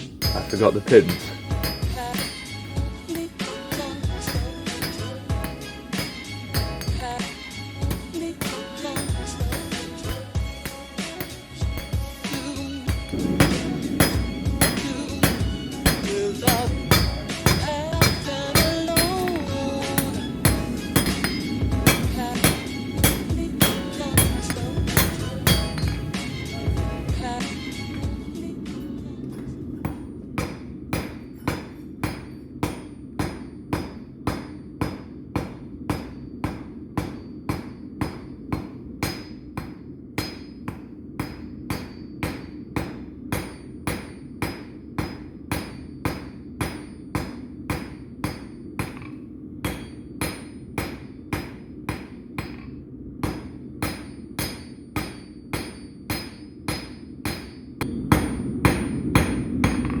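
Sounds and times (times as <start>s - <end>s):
hammer striking steel on anvil: 0.0s - 60.0s.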